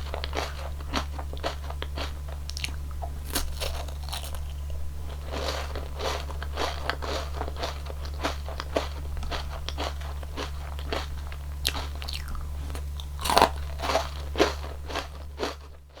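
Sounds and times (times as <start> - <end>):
crunchy wafer cone chewing: 0.0 - 16.0
steady low hum: 0.0 - 16.0.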